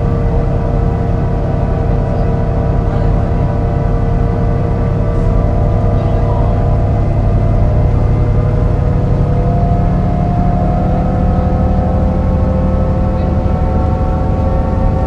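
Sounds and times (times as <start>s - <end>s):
bus engine misfiring: 0.0s - 15.0s
gearbox whine: 0.0s - 15.0s.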